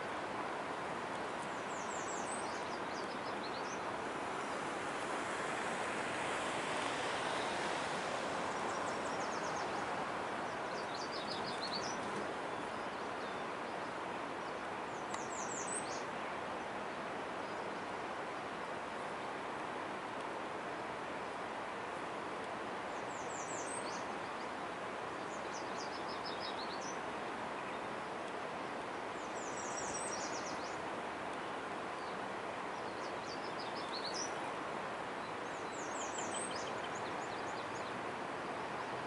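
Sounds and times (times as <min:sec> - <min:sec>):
songbird singing: 0:01.1 - 0:19.2, 0:22.8 - 0:39.0.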